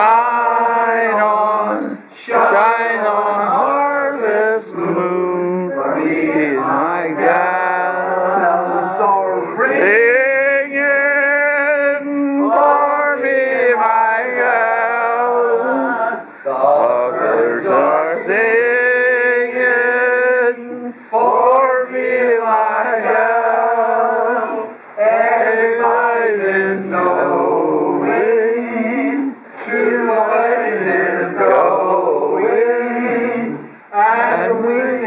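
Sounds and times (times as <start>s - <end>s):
men singing in harmony: 0.0s - 35.0s.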